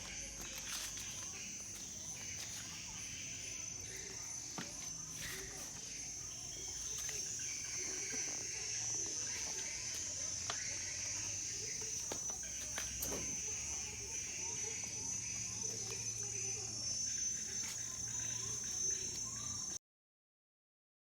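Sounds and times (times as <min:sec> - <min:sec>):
crickets chirring: 0:00.0 - 0:19.8.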